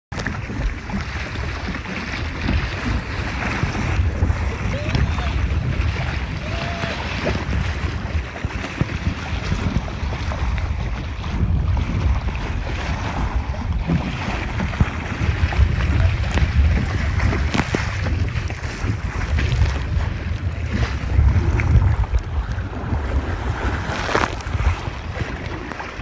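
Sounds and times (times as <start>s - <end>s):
waves splashing: 0.1s - 26.0s
wind buffeting microphone: 0.1s - 26.0s.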